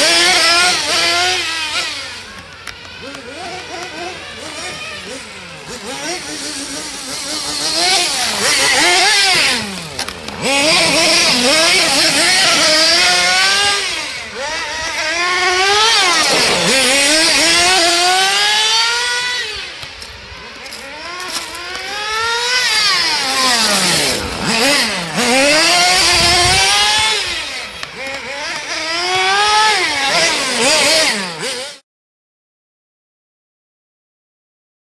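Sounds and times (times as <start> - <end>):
nitro engine revving: 0.0 - 31.8.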